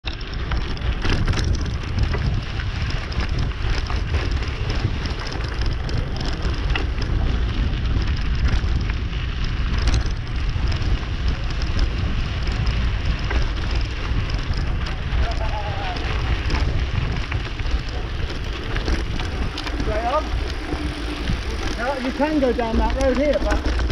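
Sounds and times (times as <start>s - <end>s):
bike clicks and rattles: 0.0s - 23.9s
bike tyres crackling over gravel: 0.0s - 23.9s
wind rumble on microphone: 0.0s - 23.9s.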